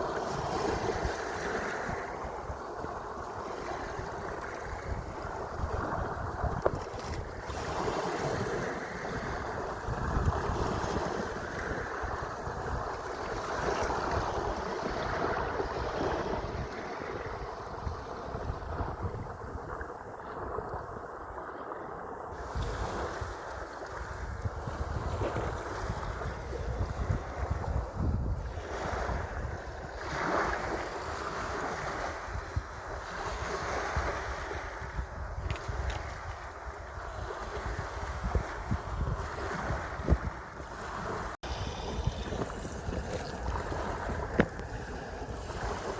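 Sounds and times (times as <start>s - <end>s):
sea waves washing: 0.0s - 45.9s
wind buffeting microphone: 0.0s - 45.9s.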